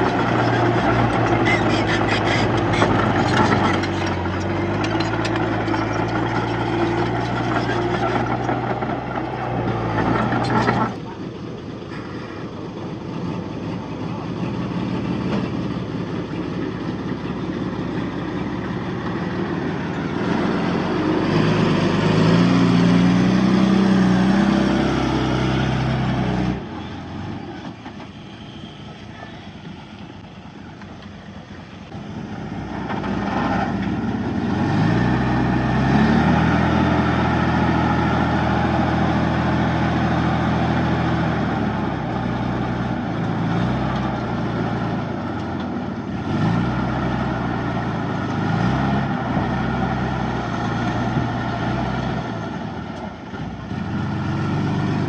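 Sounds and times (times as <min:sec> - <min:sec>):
bulldozer diesel engine revving: 0:00.0 - 0:55.0.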